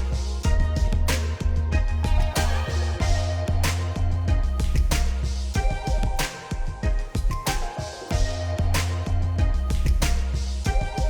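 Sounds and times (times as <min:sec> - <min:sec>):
funky music with bass and drums: 0:00.0 - 0:11.0.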